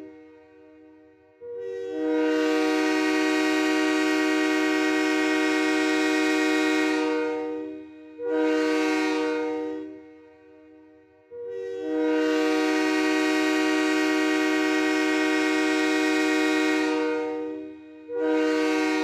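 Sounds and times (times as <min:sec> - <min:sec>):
train horn blasts: 0:00.0 - 0:19.0.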